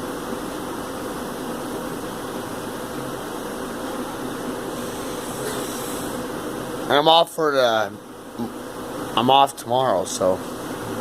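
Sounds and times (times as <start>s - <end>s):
mechanical hum and hiss: 0.0s - 11.0s.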